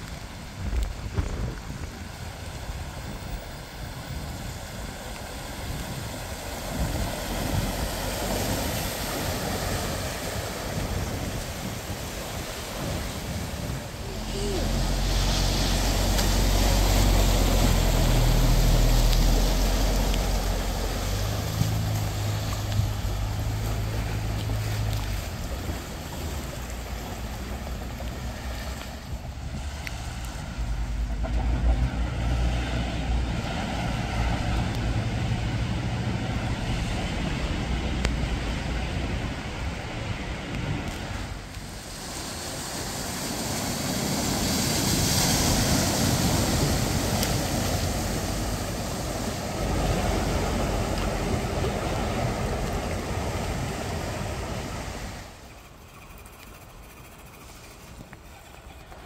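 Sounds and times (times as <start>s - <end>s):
car engine running under load: 0.0s - 59.0s
wash of moving water: 0.0s - 59.0s
water surging and splashing: 0.0s - 59.0s
wind: 0.0s - 59.0s.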